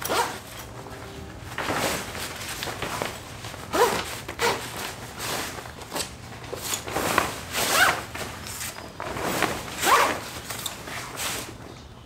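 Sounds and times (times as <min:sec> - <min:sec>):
tent fabric rustling: 0:00.0 - 0:11.6.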